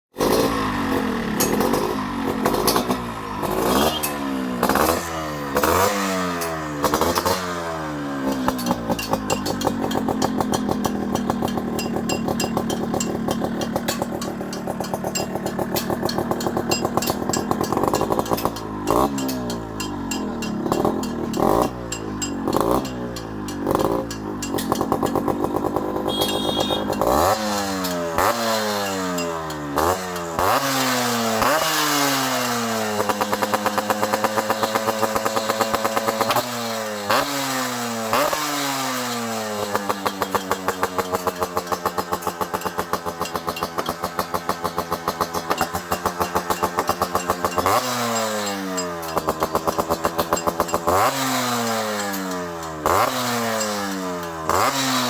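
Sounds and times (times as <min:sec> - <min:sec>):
two-stroke motorcycle engine revving: 0:00.1 - 0:55.0.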